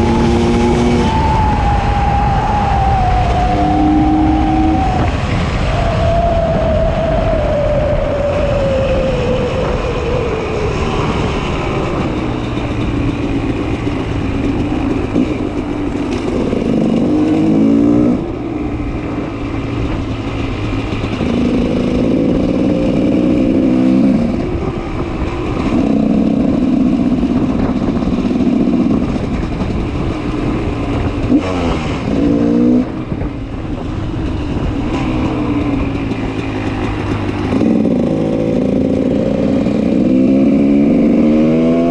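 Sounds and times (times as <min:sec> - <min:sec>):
two-stroke motorcycle engine revving: 0:00.0 - 0:05.6, 0:09.3 - 0:41.9.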